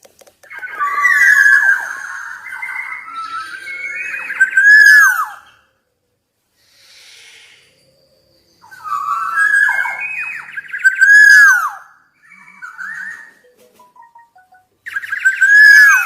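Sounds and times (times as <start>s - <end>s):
bird singing fluty whistles: 0.5s - 5.7s, 6.7s - 13.4s, 14.8s - 16.0s.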